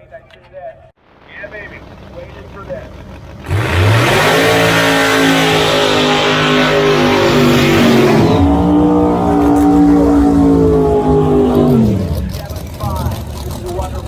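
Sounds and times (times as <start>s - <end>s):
race car engines at full throttle: 1.1s - 14.0s.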